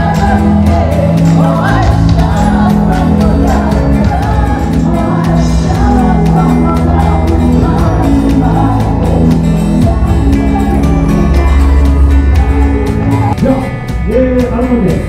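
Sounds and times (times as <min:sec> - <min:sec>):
person singing: 0:00.0 - 0:15.0
steady beat: 0:00.0 - 0:15.0
sustained bass notes: 0:00.0 - 0:15.0.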